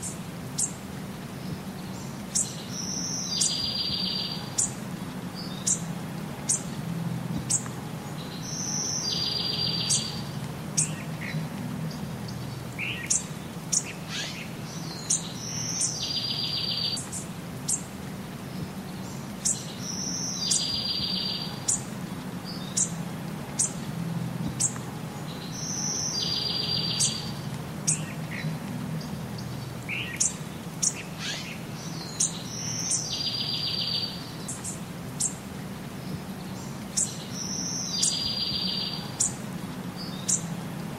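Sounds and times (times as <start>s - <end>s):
low steady hum: 0.0s - 40.9s
songbird chirps: 0.0s - 40.9s.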